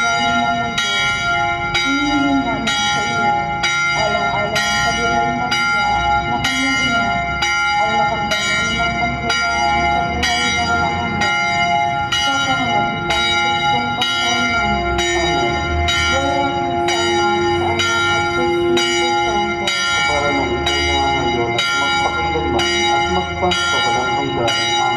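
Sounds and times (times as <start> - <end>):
church bells ringing: 0.0 - 24.9.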